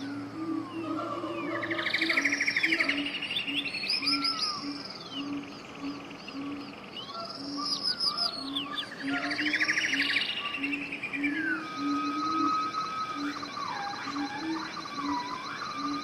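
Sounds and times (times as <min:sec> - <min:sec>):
birds trilling and chirping: 0:00.0 - 0:16.0.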